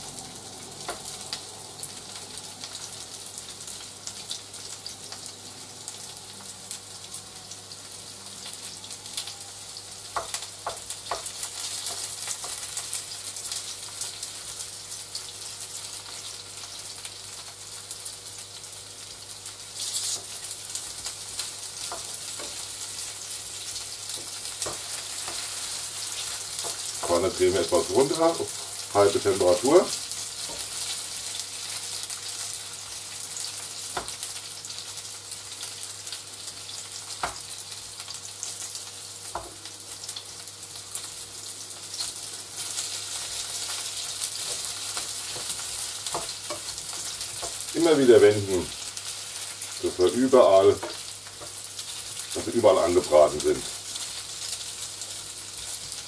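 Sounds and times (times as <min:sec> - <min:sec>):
noodles sizzling in oil: 0:00.0 - 0:56.0.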